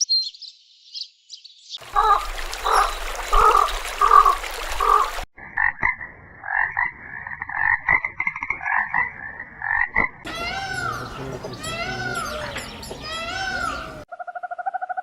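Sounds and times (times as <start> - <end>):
frogs croaking: 1.8 - 15.0.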